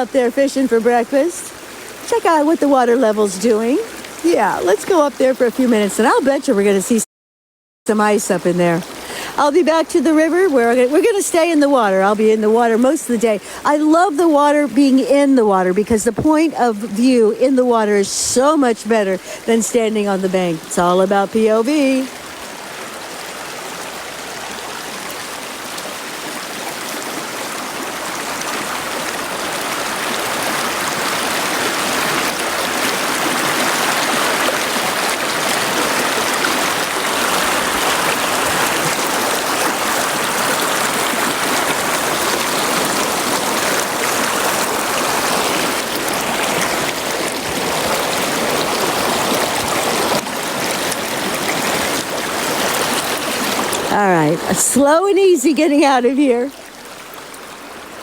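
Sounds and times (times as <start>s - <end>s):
river water rushing and gurgling: 0.0s - 7.0s, 7.9s - 58.0s.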